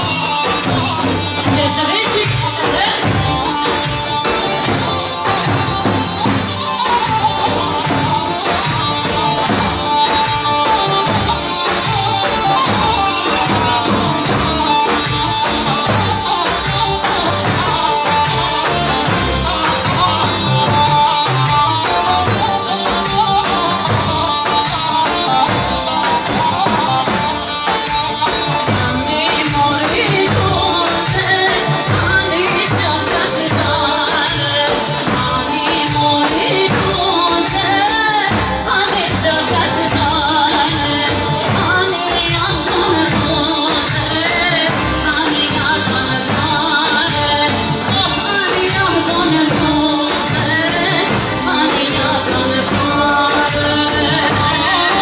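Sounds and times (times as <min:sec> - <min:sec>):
folk dance band playing: 0:00.0 - 0:55.0.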